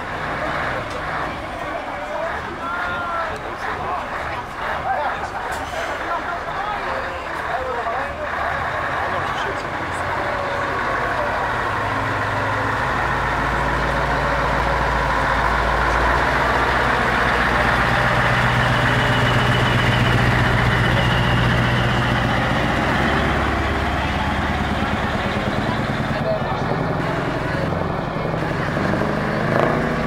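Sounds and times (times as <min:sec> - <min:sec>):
diesel truck engine droning: 0:00.0 - 0:30.0.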